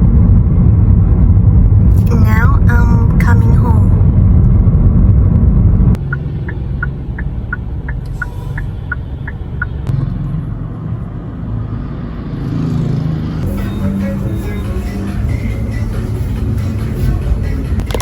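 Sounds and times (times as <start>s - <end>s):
vehicle rumble: 0.0s - 18.0s.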